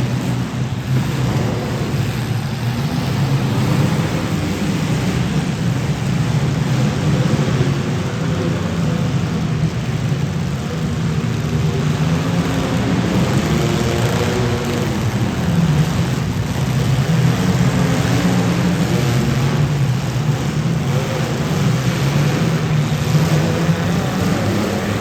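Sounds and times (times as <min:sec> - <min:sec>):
car engines running: 0:00.0 - 0:25.0.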